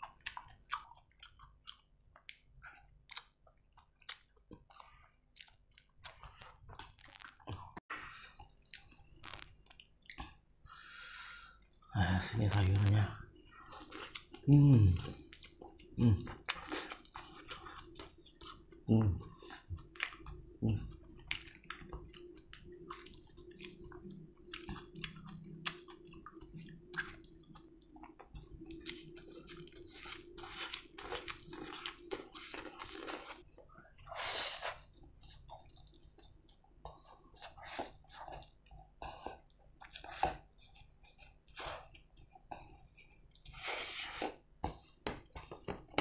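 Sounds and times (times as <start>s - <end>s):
wet chewing of leafy greens: 0.0s - 7.6s, 13.6s - 46.0s.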